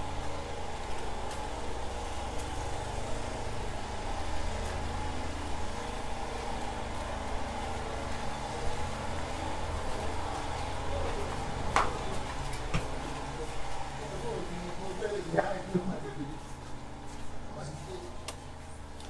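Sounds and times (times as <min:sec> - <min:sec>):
engine hum: 0:00.0 - 0:19.0.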